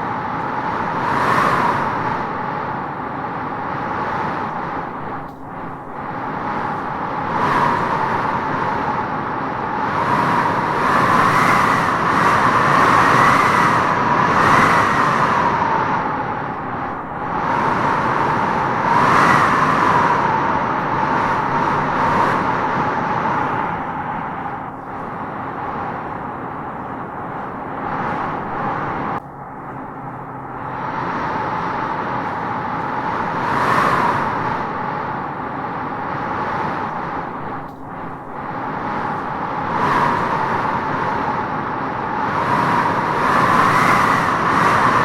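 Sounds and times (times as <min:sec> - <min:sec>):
wind howling through trees: 0:00.0 - 0:45.0.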